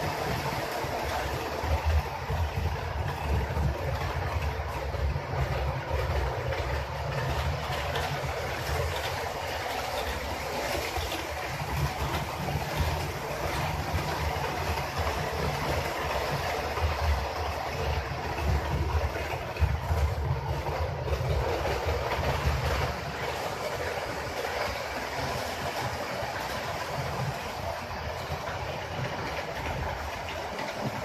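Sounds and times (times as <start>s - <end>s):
wheels clicking over track joints: 0.0s - 31.0s
wheels running on rails: 0.0s - 31.0s.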